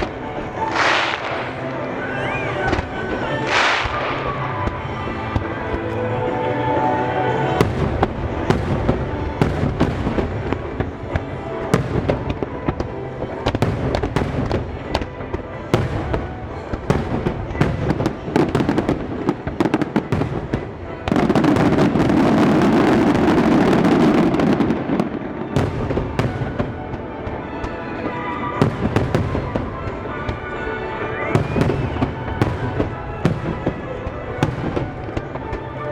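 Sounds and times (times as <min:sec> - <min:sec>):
fireworks bursting and crackling: 0:00.0 - 0:35.9
music soundtrack: 0:00.0 - 0:35.9.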